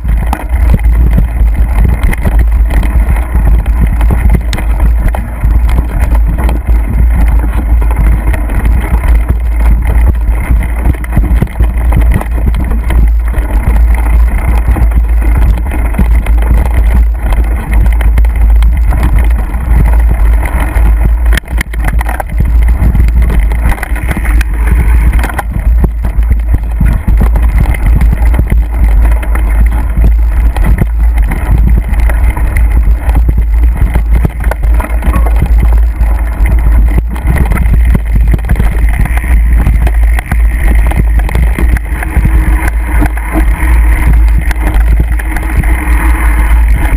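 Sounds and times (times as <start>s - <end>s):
bike rattling over rough trail: 0.0s - 46.9s
wind buffeting microphone: 0.0s - 46.9s.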